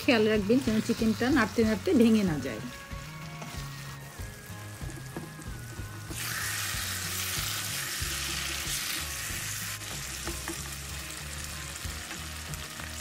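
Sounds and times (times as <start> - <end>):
chicken sizzling in hot oil: 0.0 - 13.0
low background music: 0.0 - 13.0.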